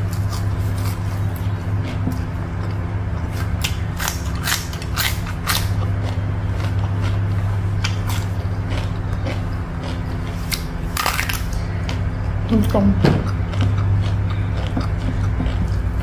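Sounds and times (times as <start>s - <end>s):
crunchy chewing of crisp food: 0.0s - 16.0s
steady low hum: 0.0s - 16.0s.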